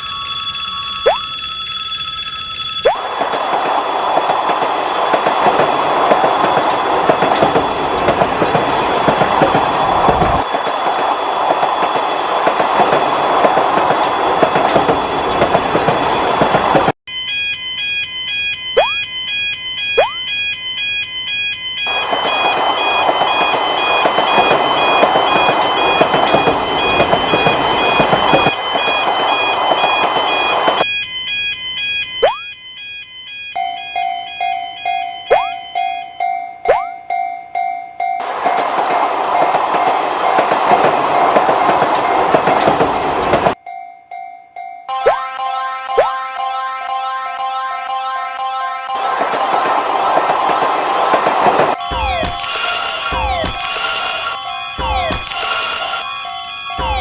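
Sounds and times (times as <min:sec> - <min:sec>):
passing train: 0:00.0 - 0:57.0
railroad crossing bell: 0:00.0 - 0:57.0.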